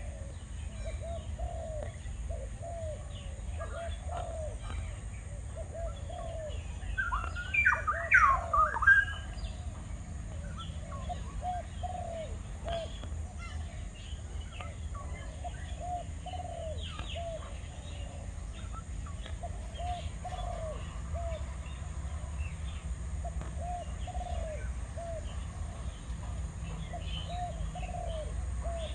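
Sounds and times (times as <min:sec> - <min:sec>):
bird chirping: 0:00.0 - 0:28.9
doves cooing: 0:00.0 - 0:28.9.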